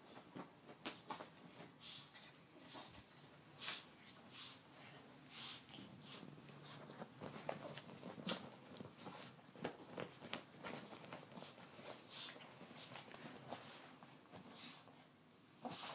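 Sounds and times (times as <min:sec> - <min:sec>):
bedding rustling and scuffling: 0:00.0 - 0:15.9.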